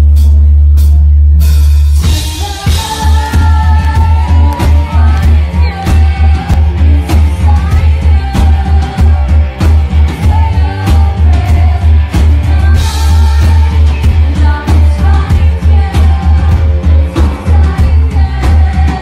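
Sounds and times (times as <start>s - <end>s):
drums: 0.0s - 19.0s
heavy booming bass: 0.0s - 19.0s
woman singing: 2.1s - 19.0s.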